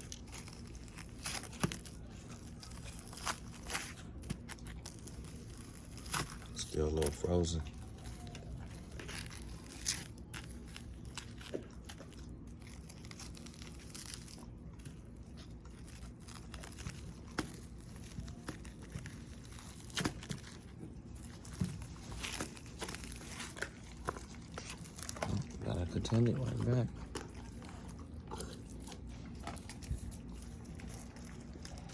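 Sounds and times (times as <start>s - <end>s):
frozen chicken crackling and tearing: 0.0s - 31.9s.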